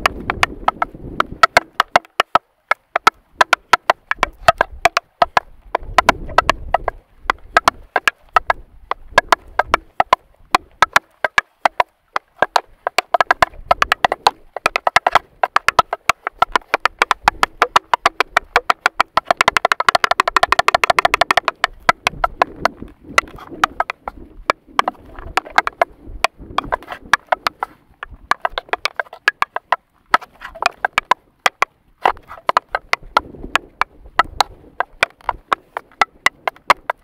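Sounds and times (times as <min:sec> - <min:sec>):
tap shoes on wooden board: 0:00.0 - 0:37.0.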